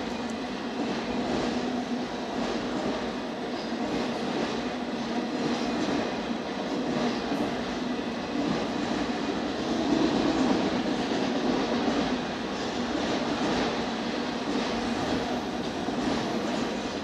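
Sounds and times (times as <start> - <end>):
steel train wheels on rail: 0.0 - 17.0.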